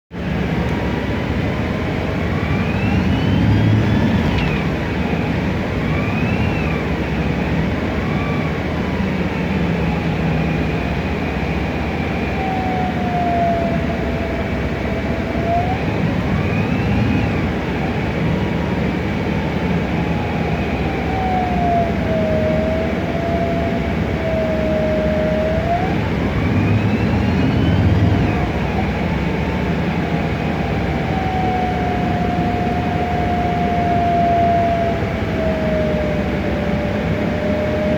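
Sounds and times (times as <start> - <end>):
bus engine running: 0.1 - 37.9
bus transmission whining: 0.2 - 37.9.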